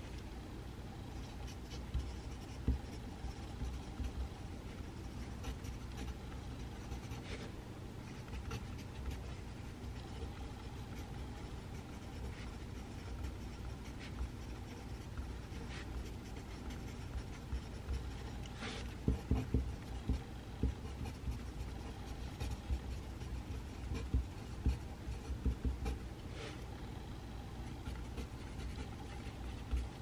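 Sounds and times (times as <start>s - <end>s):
low room hum: 0.0s - 30.0s
pencil scratching on paper: 1.1s - 26.7s, 27.4s - 30.0s.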